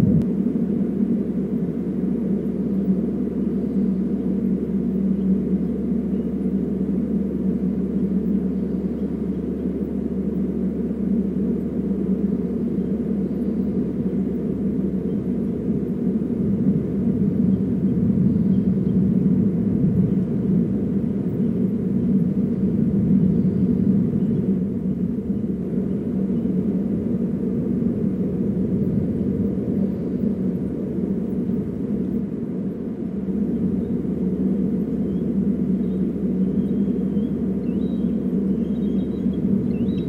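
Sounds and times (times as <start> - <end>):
low rumbling background noise: 0.0 - 40.0.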